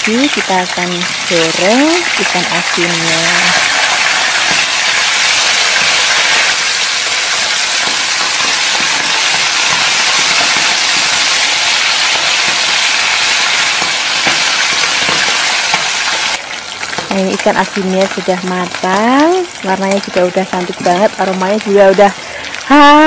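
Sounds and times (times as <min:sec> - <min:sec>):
fish deep-frying in oil: 0:00.0 - 0:23.0.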